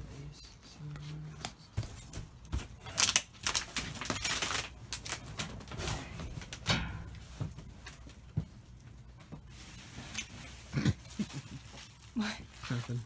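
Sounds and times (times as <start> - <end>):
rummaging through boxes and trash bags: 1.1 - 13.0.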